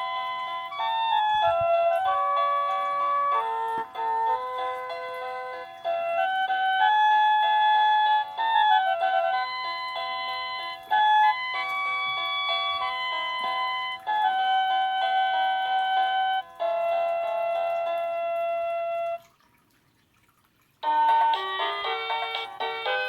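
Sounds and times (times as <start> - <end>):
doorbell electronic chime melody: 0.0 - 19.2, 20.8 - 23.0.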